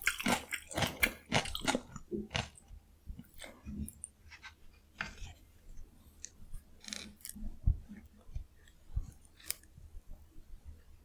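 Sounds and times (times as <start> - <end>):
chewing crisp cucumber: 0.0 - 5.5, 6.1 - 9.8.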